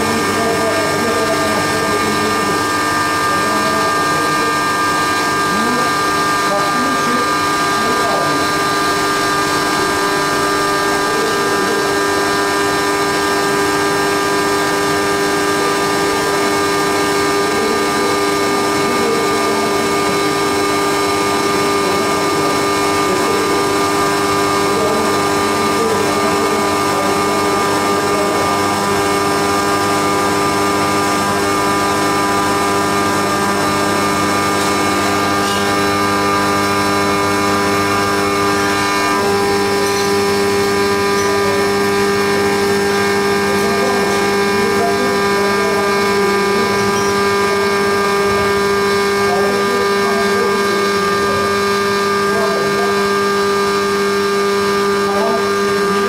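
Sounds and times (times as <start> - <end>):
milling machine whine: 0.0 - 56.0.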